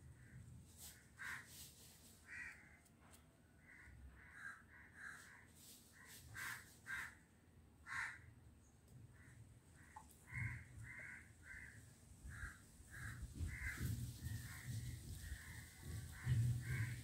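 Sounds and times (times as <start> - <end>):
crows cawing: 0.2 - 1.6, 2.2 - 2.9, 3.6 - 8.4, 9.1 - 17.0.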